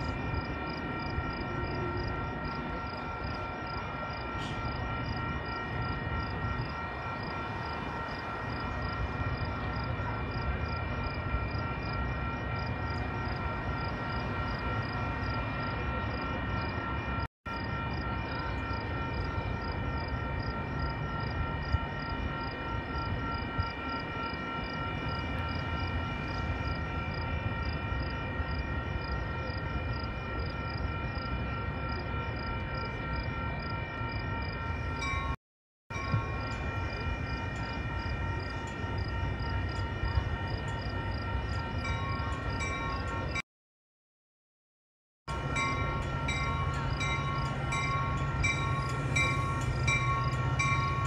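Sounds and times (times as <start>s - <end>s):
railroad crossing bell ringing: 0.0s - 43.4s, 45.3s - 51.0s
train rumble: 0.0s - 43.4s, 45.3s - 51.0s.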